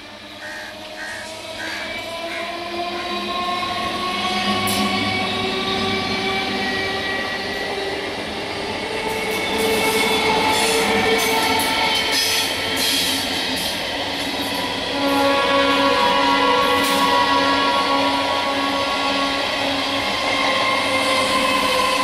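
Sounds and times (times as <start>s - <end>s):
rumble of train coaches: 0.0s - 22.0s.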